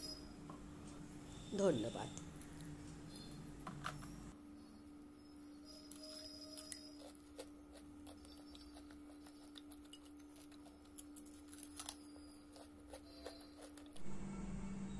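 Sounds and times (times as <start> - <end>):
faint low hum: 0.0 - 14.9.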